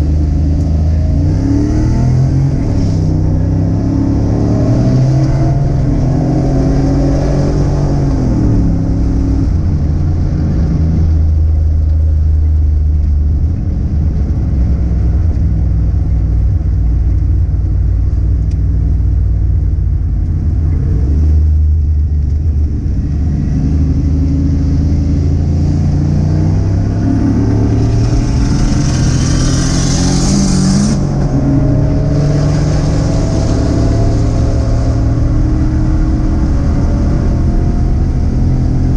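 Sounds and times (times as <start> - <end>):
car engine under load: 0.0 - 38.9
road and wind noise: 0.0 - 38.9.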